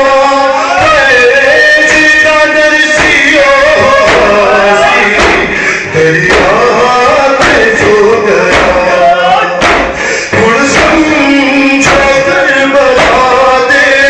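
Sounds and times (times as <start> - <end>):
man singing lament: 0.0 - 14.0
crowd striking chests: 0.7 - 14.0.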